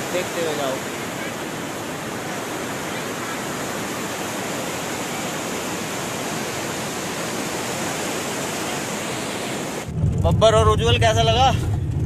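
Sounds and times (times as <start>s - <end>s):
river rushing over boulders: 0.0s - 9.9s.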